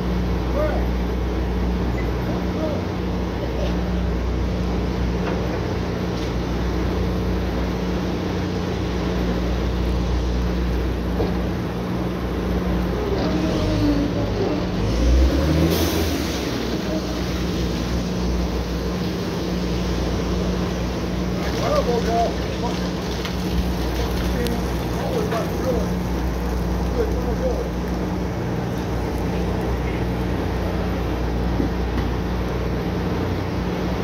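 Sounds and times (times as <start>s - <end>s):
rig engines droning: 0.0s - 34.0s.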